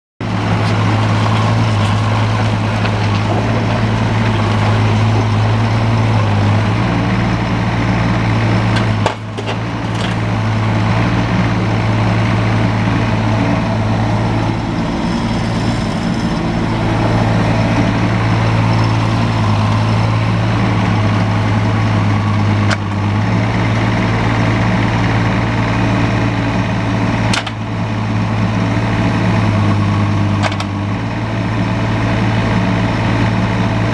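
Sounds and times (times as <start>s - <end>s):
excavator diesel engine running: 0.2s - 33.9s.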